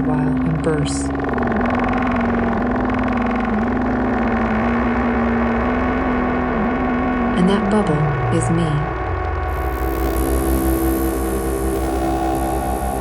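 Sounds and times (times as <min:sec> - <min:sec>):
ambient synthesizer drone: 0:00.0 - 0:13.0.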